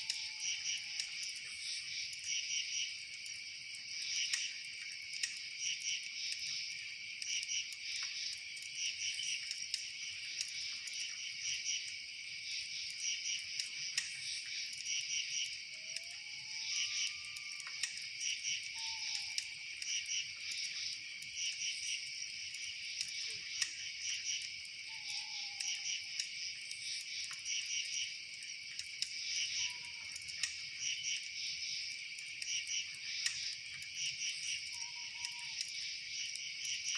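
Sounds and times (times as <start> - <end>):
campfire crackling: 0.0 - 36.9
insects chirping: 0.0 - 36.9.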